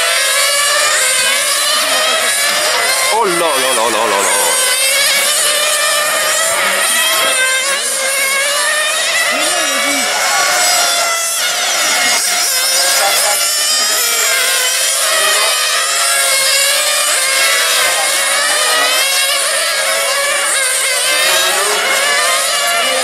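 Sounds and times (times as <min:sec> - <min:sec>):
small nitro engines revving: 0:00.0 - 0:23.0.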